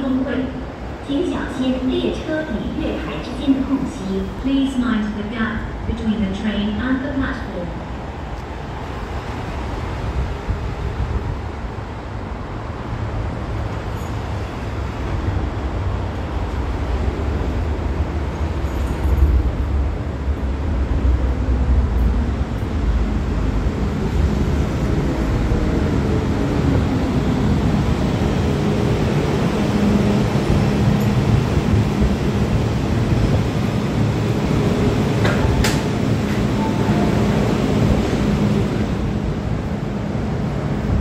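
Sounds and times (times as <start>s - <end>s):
train wheels rumbling: 8.0s - 41.0s.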